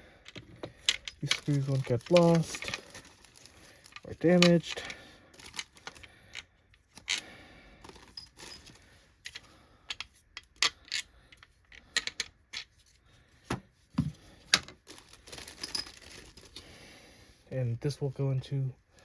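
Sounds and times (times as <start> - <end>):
screws and plastic parts clinking: 0.2 - 12.9, 14.0 - 16.7.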